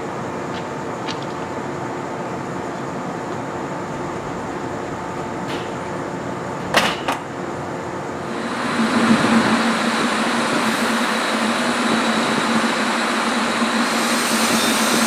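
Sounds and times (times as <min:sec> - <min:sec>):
electric train humming: 0:00.0 - 0:15.0
train door shutting: 0:02.8 - 0:15.0.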